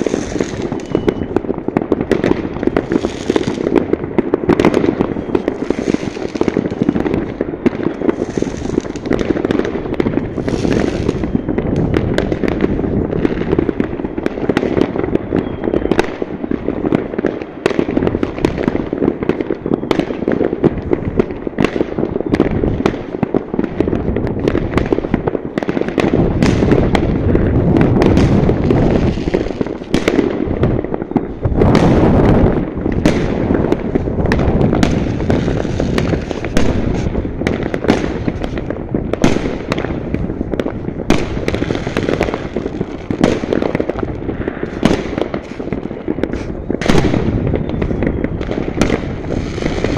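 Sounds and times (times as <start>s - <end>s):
distant explosions rumbling: 0.0s - 49.9s
fireworks crackling bangs: 0.0s - 49.9s.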